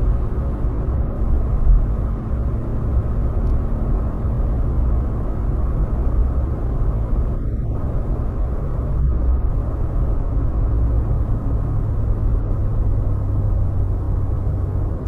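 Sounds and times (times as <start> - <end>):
car interior road noise: 0.0 - 15.0.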